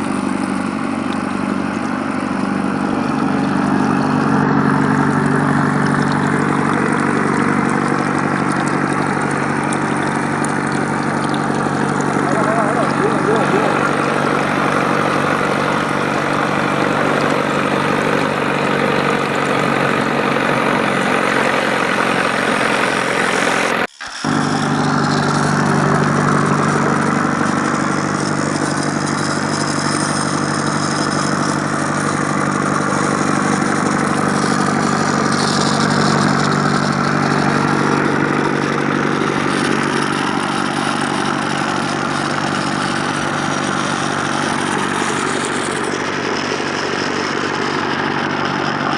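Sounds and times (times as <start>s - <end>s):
small motor humming: 0.0s - 48.9s.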